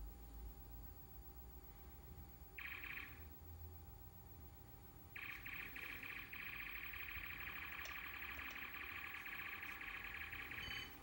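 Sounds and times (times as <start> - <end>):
high-pitched electronic buzz: 0.0 - 11.0.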